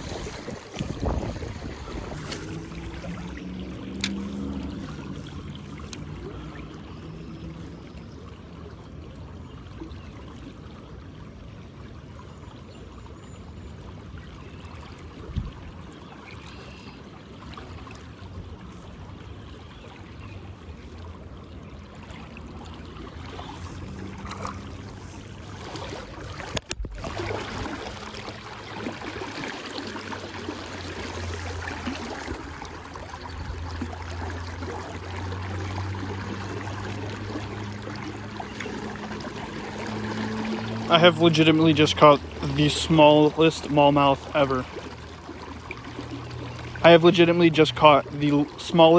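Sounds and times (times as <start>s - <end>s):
river water rushing: 0.0s - 9.4s, 14.0s - 48.9s.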